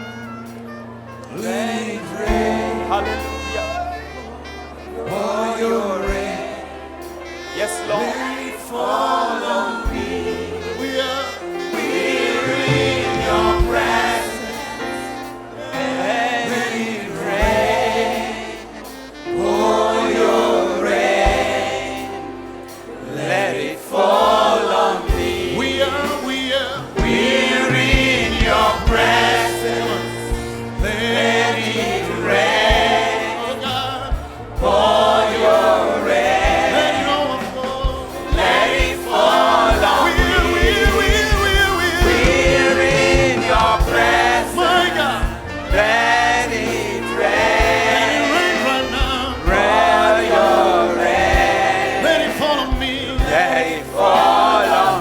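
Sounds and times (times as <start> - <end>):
band with bass and drums: 0.0 - 9.0, 9.8 - 23.5, 24.1 - 55.0
choir singing: 0.0 - 55.0.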